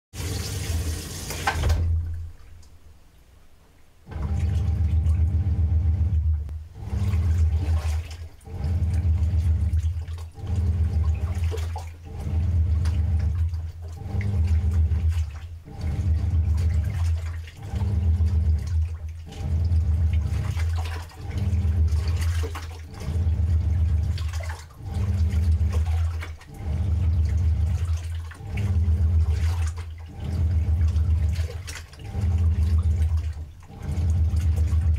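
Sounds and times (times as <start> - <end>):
washing machine water sloshing: 0.1 - 3.0, 4.0 - 34.9.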